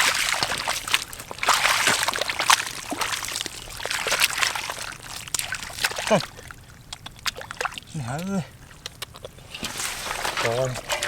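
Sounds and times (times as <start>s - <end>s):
shallow water sloshing: 0.0s - 11.0s
water drips: 0.0s - 11.0s.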